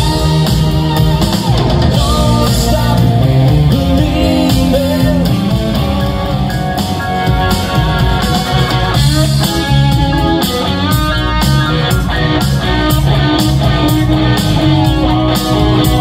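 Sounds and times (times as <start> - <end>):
bass: 0.0 - 16.0
drums: 0.0 - 16.0
electric guitar: 0.0 - 16.0
keyboards: 0.0 - 16.0.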